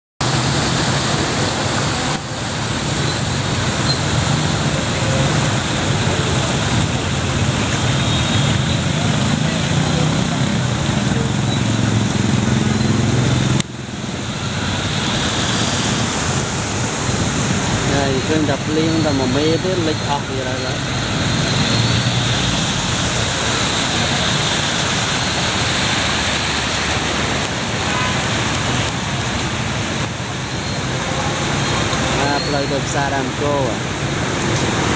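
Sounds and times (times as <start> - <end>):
heavy rain and rushing water: 0.2 - 34.9
traffic hiss on flooded street: 0.2 - 34.9.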